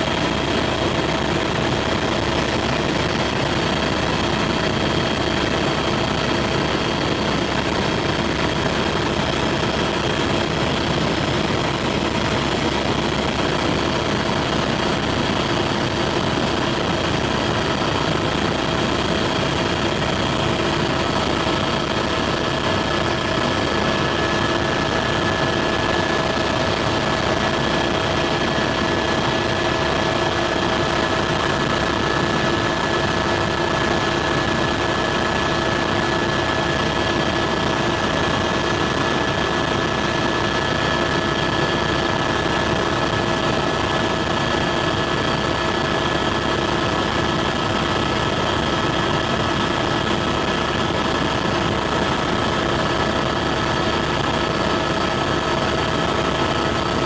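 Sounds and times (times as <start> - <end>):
constant whining tones: 0.0 - 57.0
helicopter engine and rotor noise: 0.0 - 57.0.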